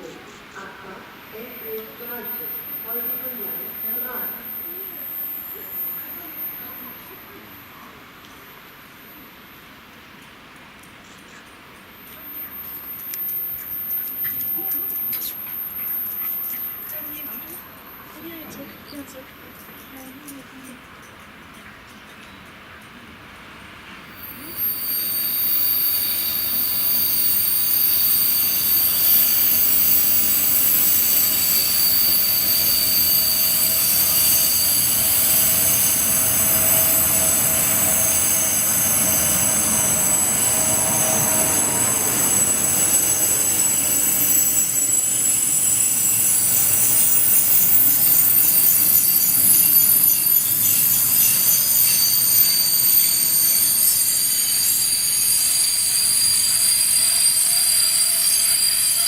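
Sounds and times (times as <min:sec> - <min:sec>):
shrill train brake squeal: 0:00.0 - 0:09.8, 0:11.8 - 0:20.6, 0:24.1 - 0:59.0
rumble of rolling train: 0:00.0 - 0:59.0.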